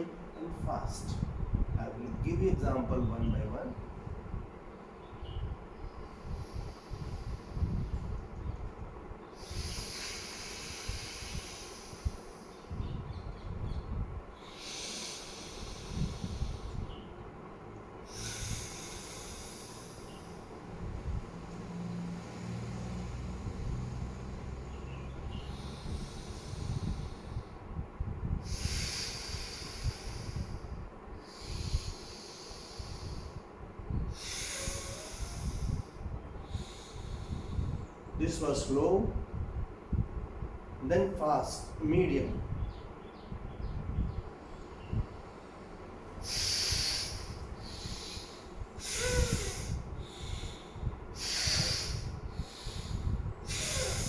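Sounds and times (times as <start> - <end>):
hissing nostril breaths: 5.3 - 40.6, 42.4 - 54.0.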